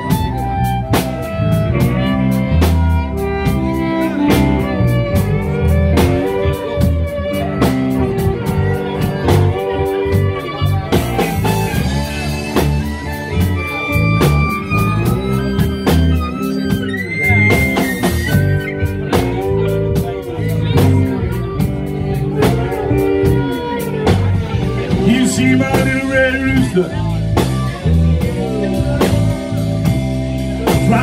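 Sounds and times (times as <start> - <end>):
blues band playing: 0.0 - 31.0
harmonica playing lead: 0.0 - 31.0.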